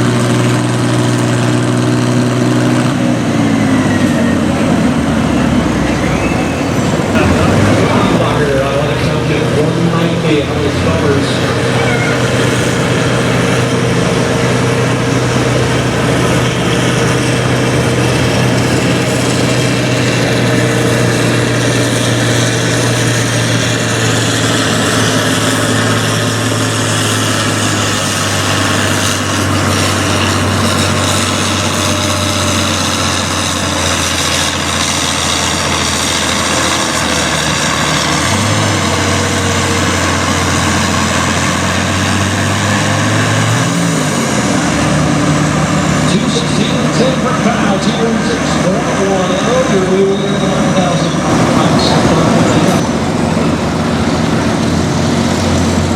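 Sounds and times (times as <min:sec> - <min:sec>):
tractor diesel engine droning: 0:00.0 - 0:55.9.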